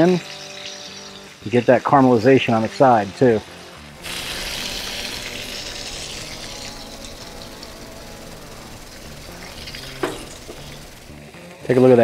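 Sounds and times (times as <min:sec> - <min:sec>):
steak sizzling on a griddle: 0:00.0 - 0:12.0.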